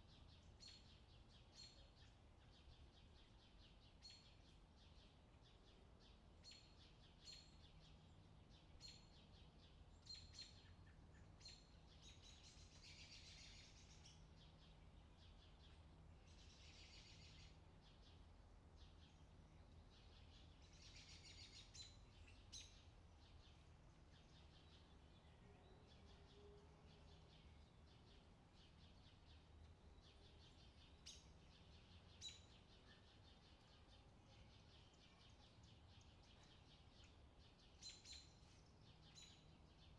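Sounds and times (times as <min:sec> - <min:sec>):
faint bird chirps: 0:00.0 - 0:39.9
low steady hum: 0:00.0 - 0:39.9.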